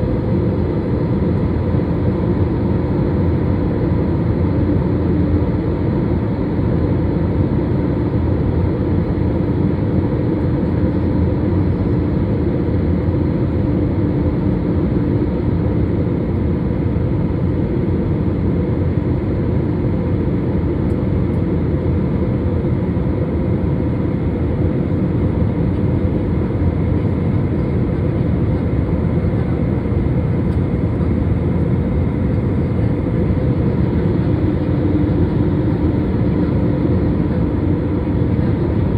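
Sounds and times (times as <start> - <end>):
jet airliner engine and airflow: 0.0 - 38.9.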